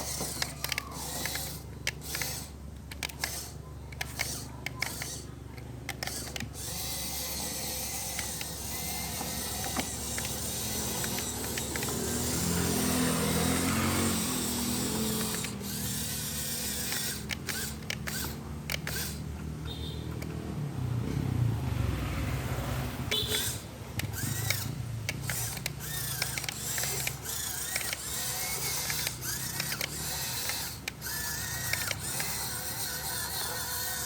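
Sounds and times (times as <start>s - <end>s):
geared motor whirring and clattering: 0.0s - 21.3s, 23.1s - 34.0s.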